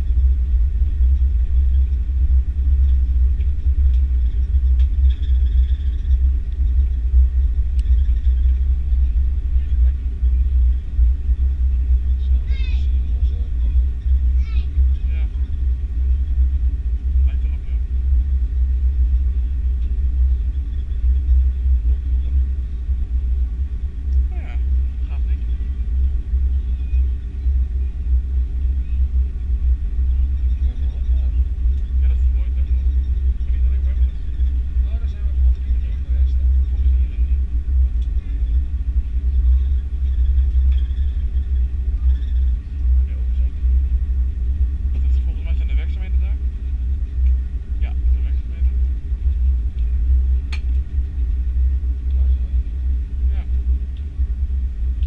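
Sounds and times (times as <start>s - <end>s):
airliner taxiing rumble: 0.0s - 55.0s
faint jet engine hum: 0.0s - 55.0s.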